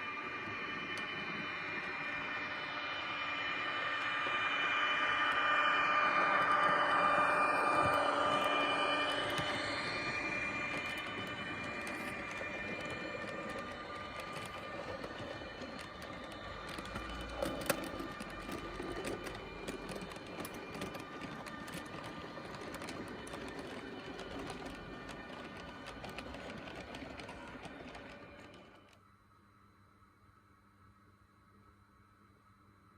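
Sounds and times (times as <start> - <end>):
model train running on track: 0.0 - 29.0
wheels clicking on track: 0.0 - 29.0.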